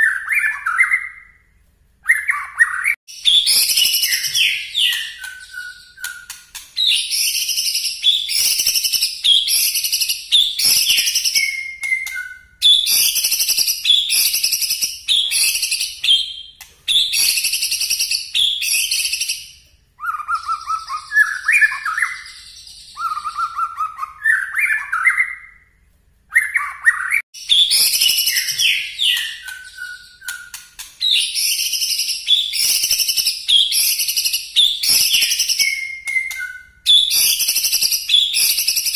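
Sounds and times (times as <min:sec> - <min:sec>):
bird singing shrill phrases: 0:00.0 - 0:38.9.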